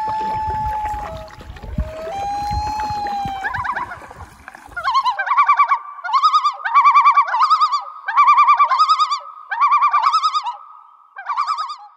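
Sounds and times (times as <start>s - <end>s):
bird calling: 0.0s - 11.9s.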